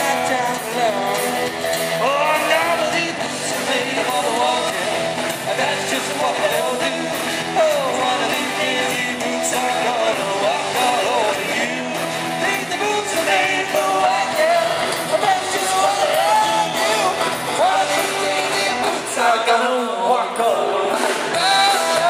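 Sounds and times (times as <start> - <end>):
drums on a steady beat: 0.0 - 19.4, 20.9 - 22.0
electric guitars: 0.0 - 22.0
man singing lead vocal: 0.0 - 22.0.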